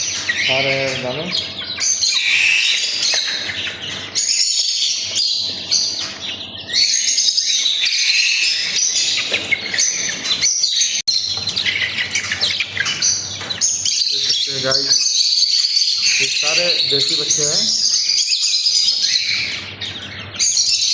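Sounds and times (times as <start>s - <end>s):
chicks peeping: 0.0s - 20.9s.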